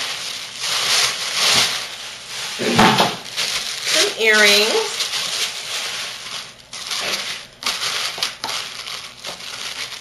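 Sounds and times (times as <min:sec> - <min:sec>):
shopping bag and wrapping crinkling: 0:00.0 - 0:10.0.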